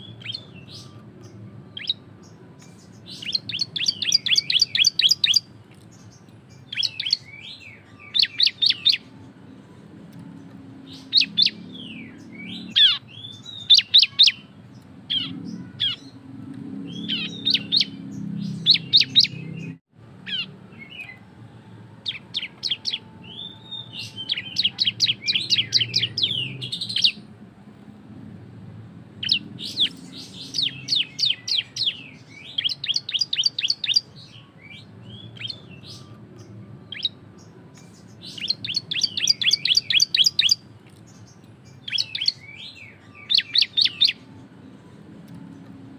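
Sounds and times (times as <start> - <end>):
bird chirping rapidly: 0.0 - 9.1, 10.8 - 14.5, 15.1 - 16.2, 16.8 - 21.2, 22.0 - 27.3, 29.2 - 40.6, 41.2 - 44.2.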